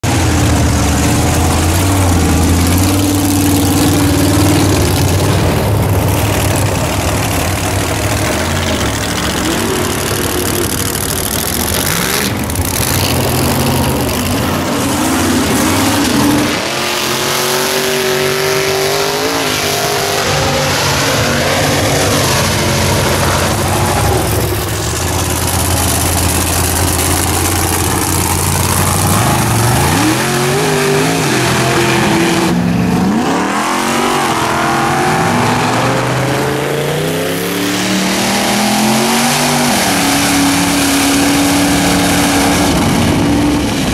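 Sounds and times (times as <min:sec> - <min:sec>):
truck engines revving: 0:00.0 - 0:43.9.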